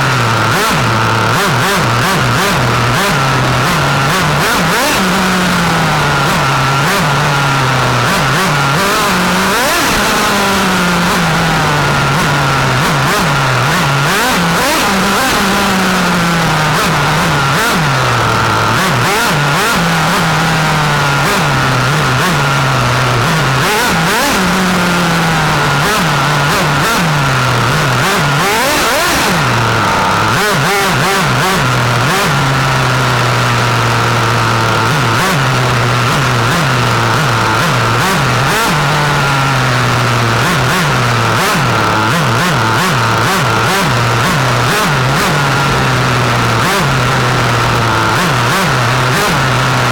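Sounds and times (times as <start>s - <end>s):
model car engine revving: 0.0s - 49.9s.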